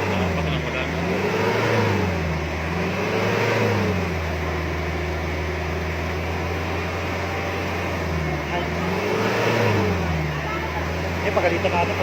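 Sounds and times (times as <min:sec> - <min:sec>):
diesel engine revving and idling: 0:00.0 - 0:12.0.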